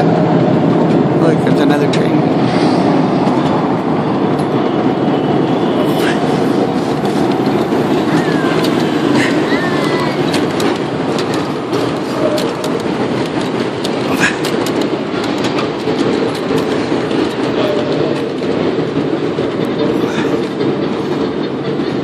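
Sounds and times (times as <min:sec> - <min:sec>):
miniature train rumbling on track: 0:00.0 - 0:22.0
sharp track clicks: 0:03.2 - 0:22.0.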